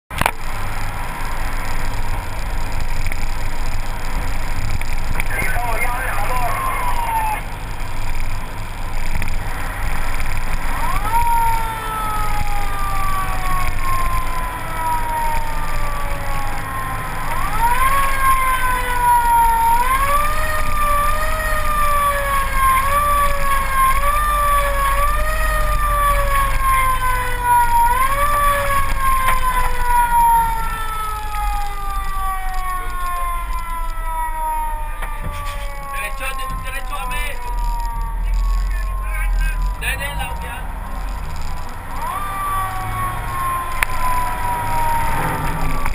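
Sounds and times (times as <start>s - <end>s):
low engine rumble: 0.1s - 45.9s
fire truck siren wailing: 0.2s - 45.9s.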